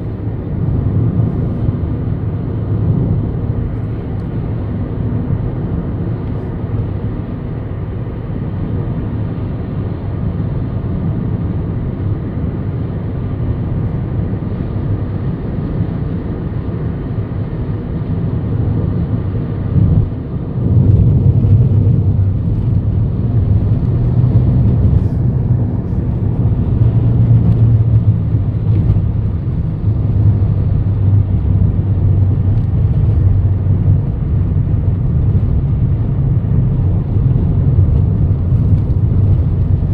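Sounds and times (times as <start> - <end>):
car driving interior rumble: 0.0 - 39.9.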